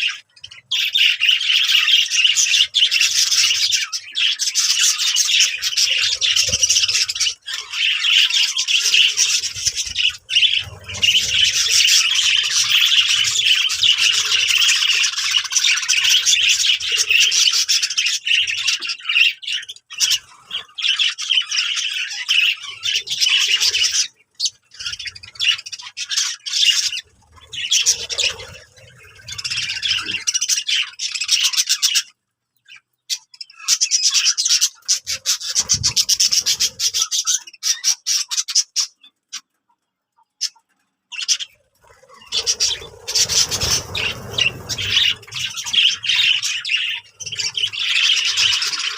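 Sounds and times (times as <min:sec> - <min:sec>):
birds chattering and squawking: 0:00.0 - 0:48.9.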